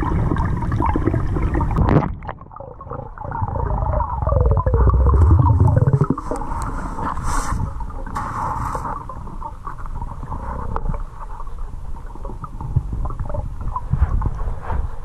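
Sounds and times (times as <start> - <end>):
underwater rumble of moving water: 0.0 - 15.0.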